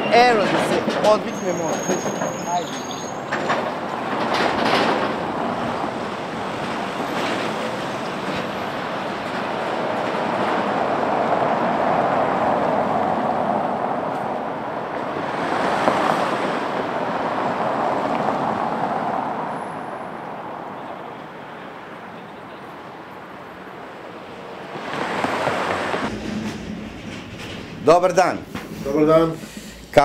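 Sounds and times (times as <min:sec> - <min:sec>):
street traffic passing: 0:00.0 - 0:30.0.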